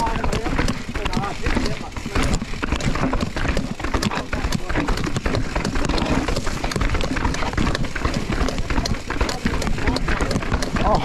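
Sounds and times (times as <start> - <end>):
mountain bike rattling over rocks: 0.0 - 11.0.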